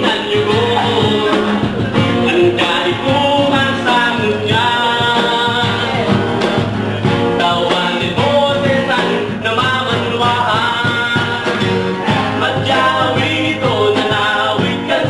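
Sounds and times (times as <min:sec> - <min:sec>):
person singing: 0:00.0 - 0:15.0
strummed acoustic guitars: 0:00.0 - 0:15.0.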